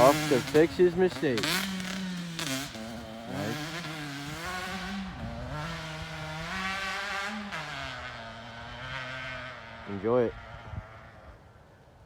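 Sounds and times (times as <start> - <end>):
dirt bike engine revving: 0.0 - 11.4.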